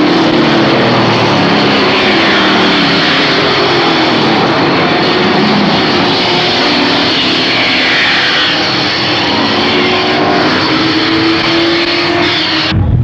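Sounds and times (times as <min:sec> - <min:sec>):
race truck engines passing: 0:00.0 - 0:12.7.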